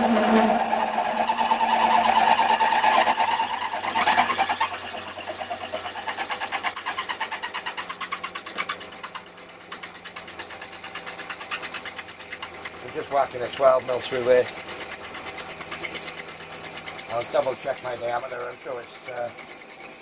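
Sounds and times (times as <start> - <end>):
lathe drilling with high whine: 0.0 - 20.0.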